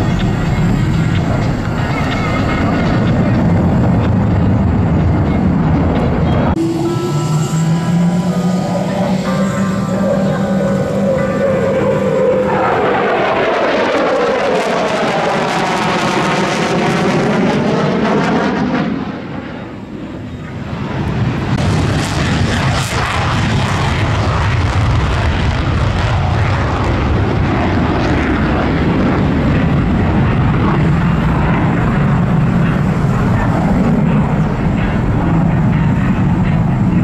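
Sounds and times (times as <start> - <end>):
jet afterburner rumble: 0.0 - 37.0
jet passing overhead: 0.0 - 37.0.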